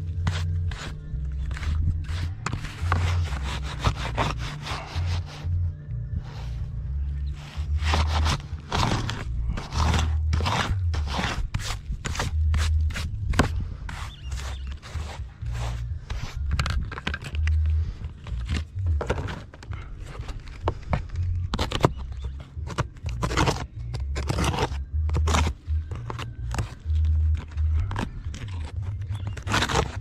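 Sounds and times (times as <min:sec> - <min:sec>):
scraping and crunching strokes: 0:00.0 - 0:05.5, 0:07.3 - 0:30.0
low rumble: 0:00.0 - 0:29.5.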